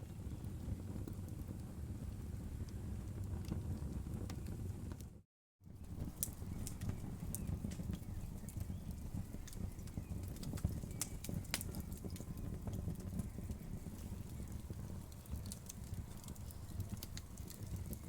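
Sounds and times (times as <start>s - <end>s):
low rumble of flames: 0.0s - 18.0s
burning wood crackling: 0.1s - 18.0s.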